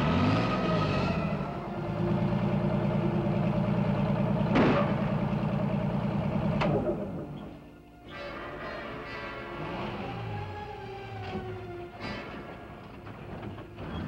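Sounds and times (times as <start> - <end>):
bulldozer engine running: 0.0 - 14.0.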